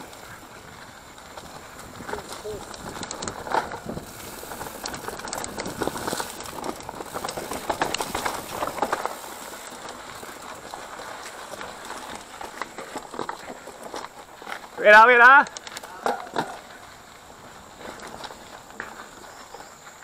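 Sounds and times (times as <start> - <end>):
bike clattering over rough ground: 0.0 - 20.0
bike tyres on dirt: 0.0 - 20.0.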